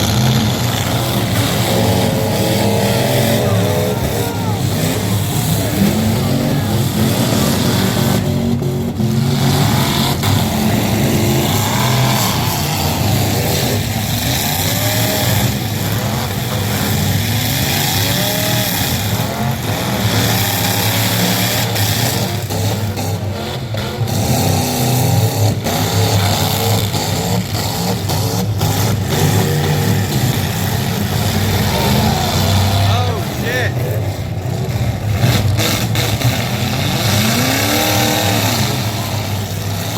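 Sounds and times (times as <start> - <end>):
heavy mechanical noise: 0.0 - 39.9
truck engine revving: 0.0 - 39.9.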